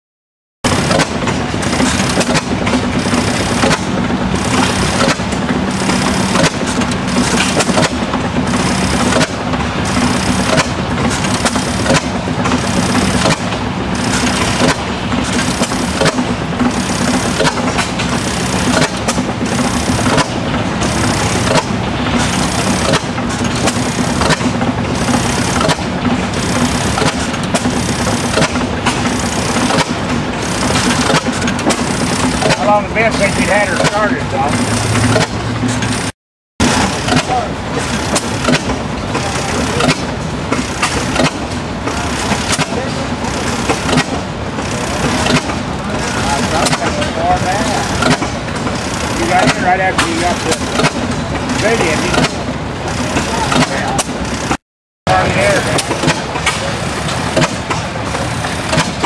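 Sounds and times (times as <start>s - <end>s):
oil field engine running: 0.6s - 59.0s.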